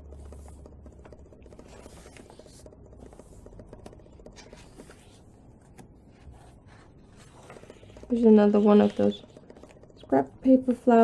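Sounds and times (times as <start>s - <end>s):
paper pages rustling: 0.0s - 11.0s.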